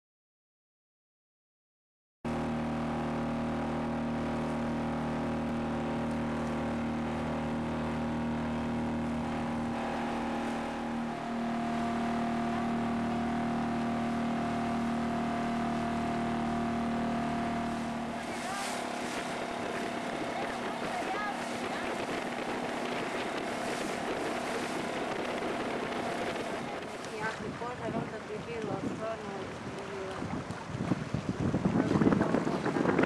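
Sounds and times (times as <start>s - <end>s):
motorboat engine droning: 2.3s - 33.0s.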